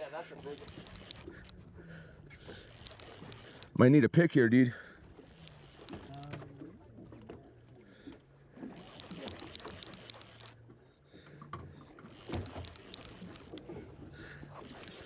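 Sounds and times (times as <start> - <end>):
boat engine hum: 0.0 - 15.0.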